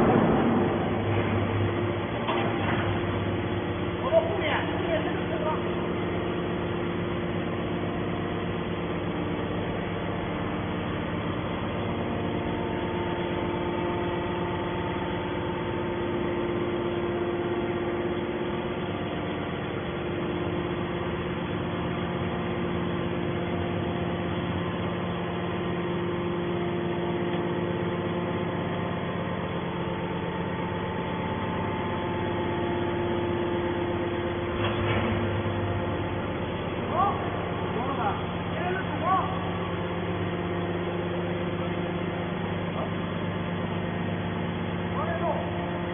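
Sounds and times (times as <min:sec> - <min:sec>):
hydraulic power unit humming: 0:00.0 - 0:45.9.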